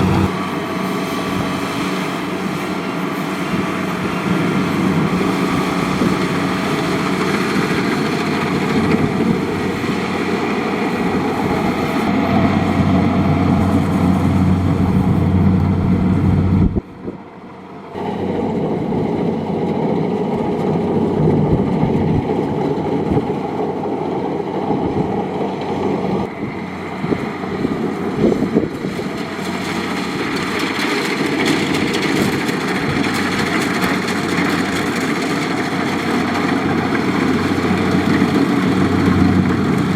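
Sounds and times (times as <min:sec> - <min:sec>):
combine harvester diesel engine droning: 0:00.0 - 0:39.9.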